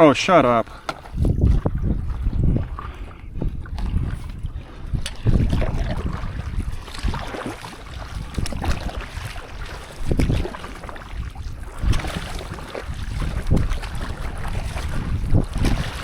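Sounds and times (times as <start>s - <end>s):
paddle strokes splashing water: 0.0s - 16.0s
wind buffeting microphone: 0.0s - 16.0s.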